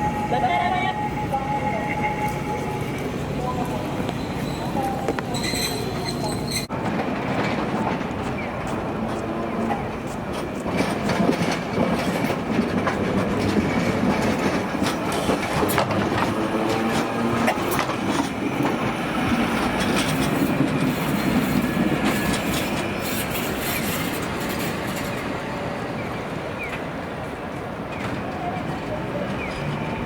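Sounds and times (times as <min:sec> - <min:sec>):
tram running rumble: 0:00.0 - 0:30.0
tram wheels clacking over rail joints: 0:00.0 - 0:30.0.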